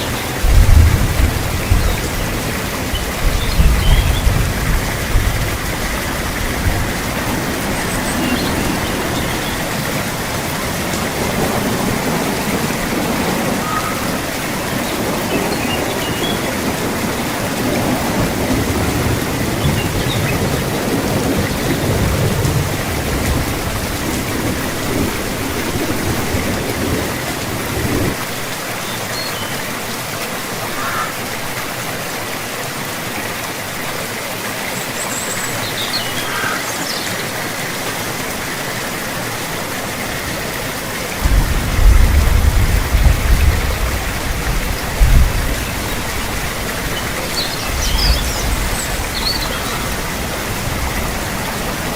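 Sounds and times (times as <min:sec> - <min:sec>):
distant thunder rumbling: 0:00.0 - 0:28.2, 0:38.5 - 0:51.9
heavy rain hissing: 0:00.0 - 0:51.9.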